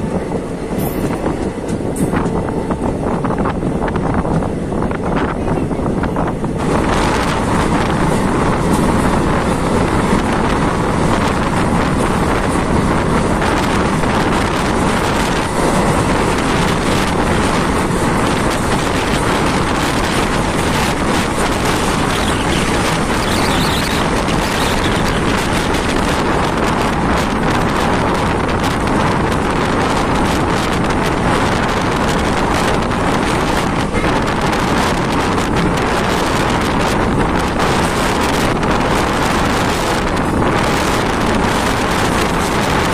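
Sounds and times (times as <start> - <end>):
train wheels rumbling on rails: 0.0 - 42.9
wind rushing on microphone: 0.0 - 42.9.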